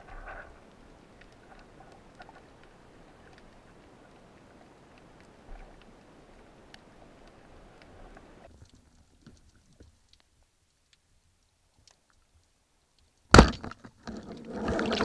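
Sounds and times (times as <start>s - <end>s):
small underwater clicks: 0.0s - 15.0s.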